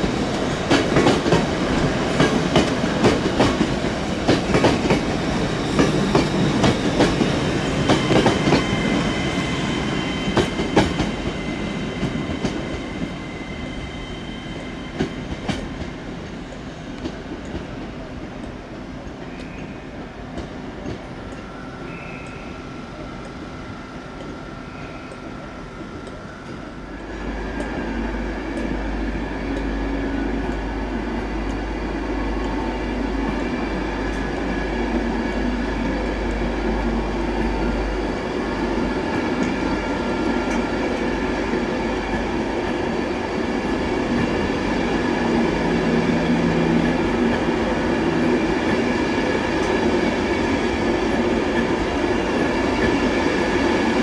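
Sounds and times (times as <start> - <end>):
electric train humming: 0.0 - 54.0
train rumbling past: 0.0 - 54.0.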